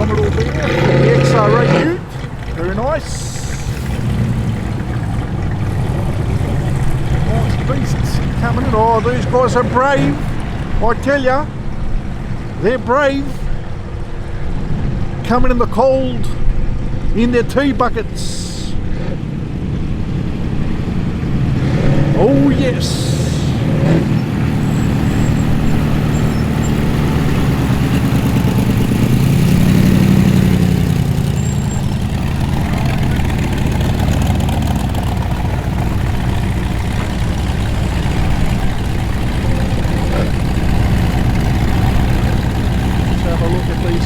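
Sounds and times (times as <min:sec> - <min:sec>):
hot rod engines idling: 0:00.0 - 0:44.0.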